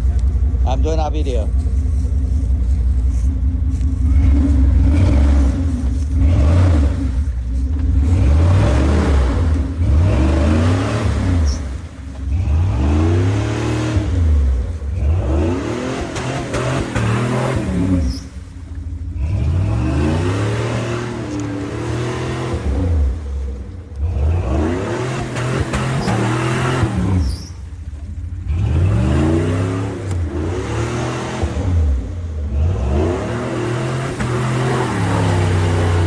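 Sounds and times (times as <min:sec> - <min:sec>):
vehicle engine revving hard: 0:03.2 - 0:18.4, 0:19.0 - 0:27.6, 0:28.2 - 0:36.0.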